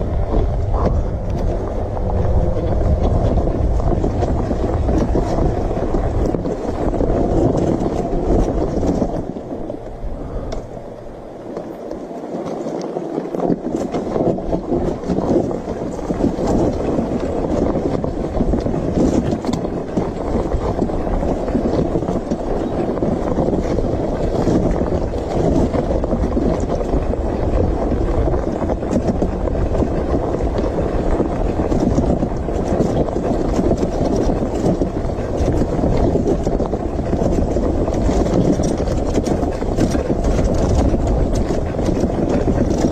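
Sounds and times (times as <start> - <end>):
motorcycle running noise: 0.0 - 42.9
wind rush on microphone: 0.0 - 42.9.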